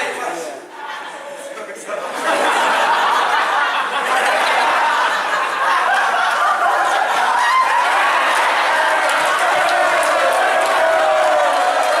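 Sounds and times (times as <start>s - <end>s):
group of people laughing: 0.1s - 12.0s.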